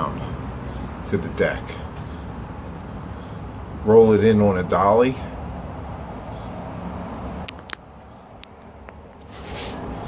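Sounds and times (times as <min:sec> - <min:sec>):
low urban background rumble: 0:00.0 - 0:10.0.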